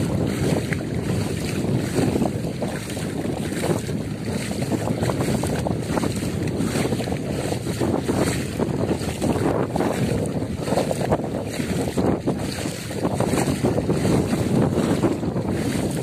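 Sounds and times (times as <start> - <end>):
water rushing past boat: 0.0 - 16.0
wind buffeting microphone: 0.0 - 16.0.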